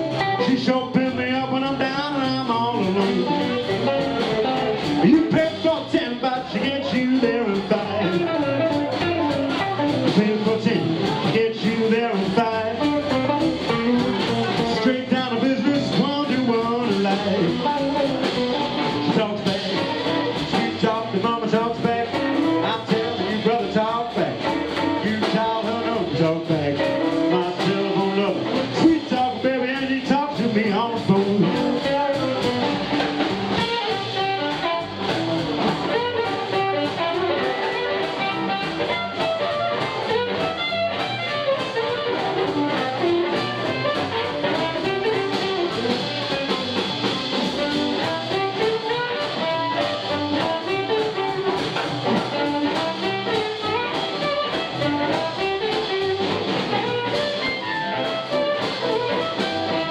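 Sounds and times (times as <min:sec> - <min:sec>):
amplified harmonica: 0:00.0 - 0:59.9
drums: 0:00.0 - 0:59.9
electric guitar: 0:00.0 - 0:59.9
upright double bass: 0:00.0 - 0:59.9.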